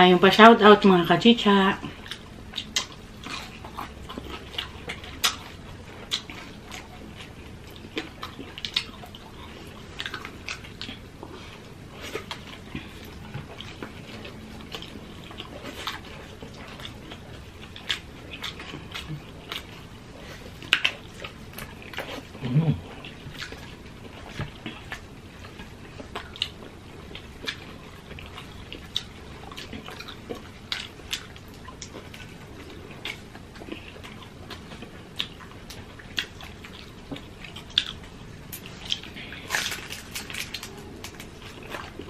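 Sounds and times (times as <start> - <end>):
people chewing with mouth smacks: 1.8 - 42.0.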